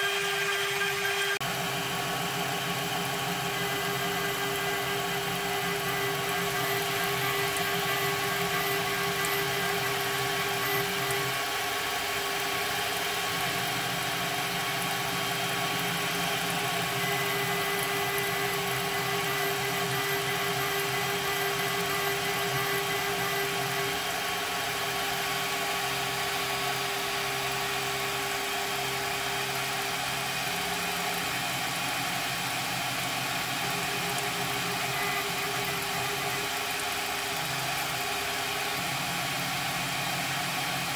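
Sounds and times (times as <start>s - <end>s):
milling spindle whine: 0.0s - 40.9s.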